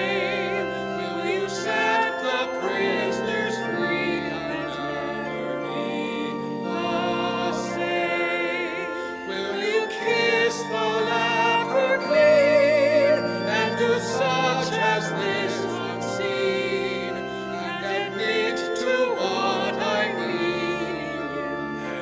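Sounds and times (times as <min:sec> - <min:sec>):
church organ chords: 0:00.0 - 0:22.0
people singing with vibrato: 0:00.0 - 0:22.0.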